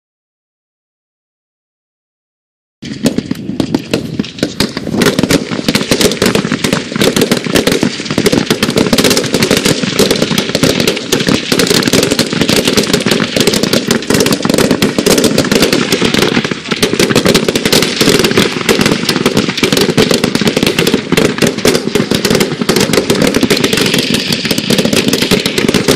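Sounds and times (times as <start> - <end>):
rapid rifle shots: 3.0 - 25.9.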